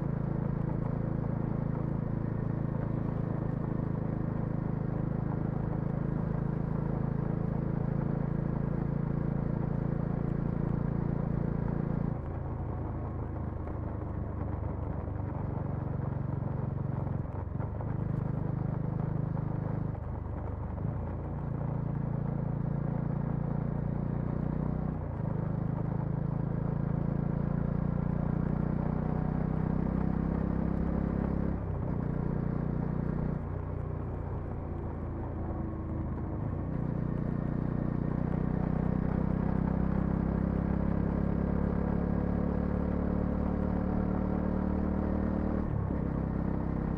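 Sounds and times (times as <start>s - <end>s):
motorcycle engine and exhaust: 0.0s - 46.9s.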